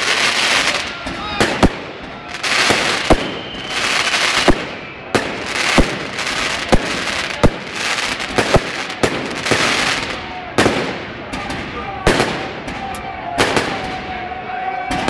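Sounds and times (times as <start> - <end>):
fireworks hissing and crackling: 0.0 - 14.1
fireworks bangs: 0.0 - 15.0.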